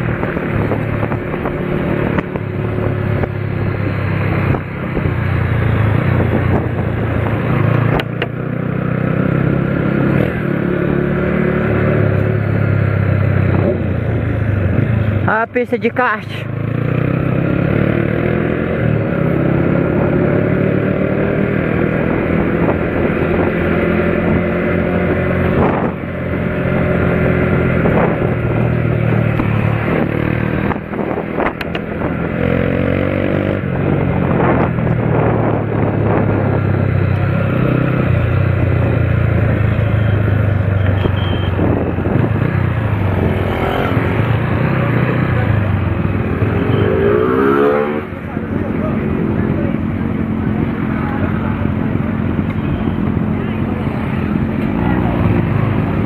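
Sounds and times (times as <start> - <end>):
motor vehicle engines running: 0.0 - 56.0.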